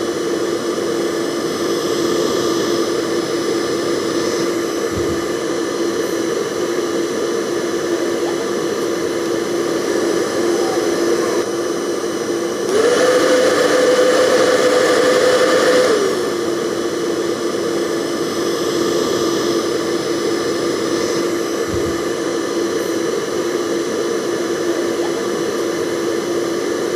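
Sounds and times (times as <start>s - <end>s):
hair dryer running: 0.0s - 26.9s.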